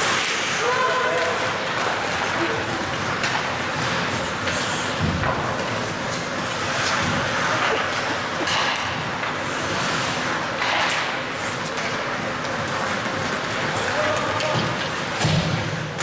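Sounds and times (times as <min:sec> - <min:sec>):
indistinct crowd voices: 0:00.0 - 0:16.0.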